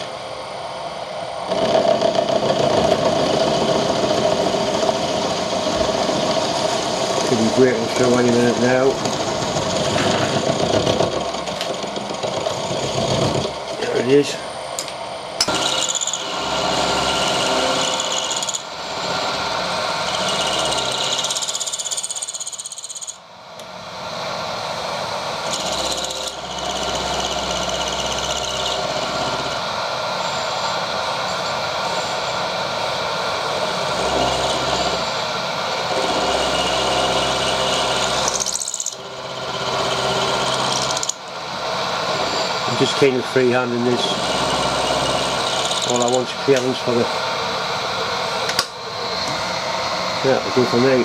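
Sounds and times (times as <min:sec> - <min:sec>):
power tool cutting metal: 0:01.4 - 0:14.3, 0:15.4 - 0:23.2, 0:24.1 - 0:51.0.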